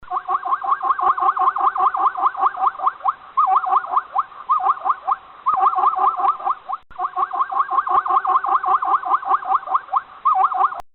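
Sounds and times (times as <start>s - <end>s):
animal squealing calls: 0.1s - 10.8s.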